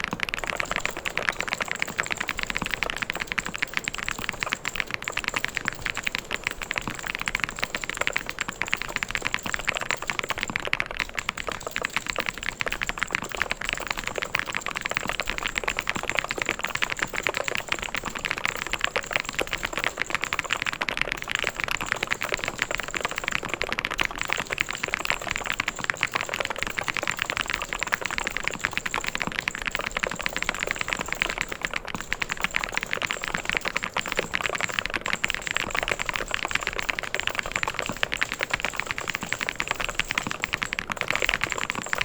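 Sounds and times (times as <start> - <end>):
fast typing on mechanical keyboard: 0.0 - 42.0.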